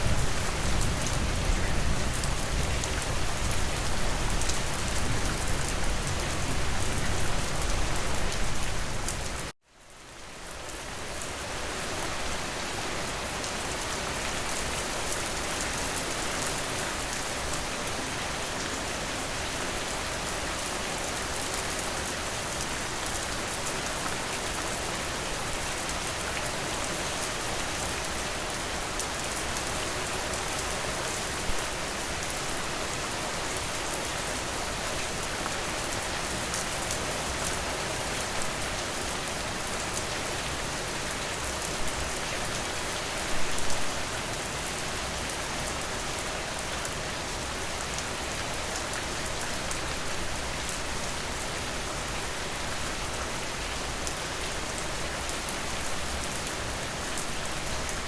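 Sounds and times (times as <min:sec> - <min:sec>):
rain falling on a porch: 0:00.0 - 0:58.0.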